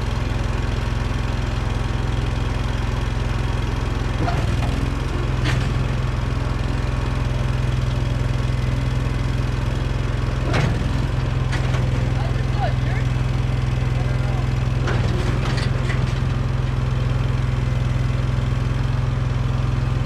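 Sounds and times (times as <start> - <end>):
skid steer engine running: 0.0 - 20.0.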